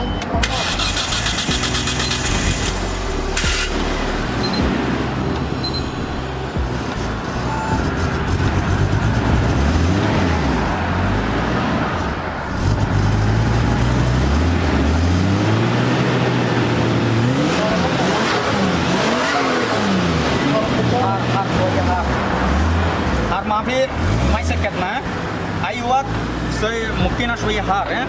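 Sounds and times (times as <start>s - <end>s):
car engine revving: 0.4s - 28.0s.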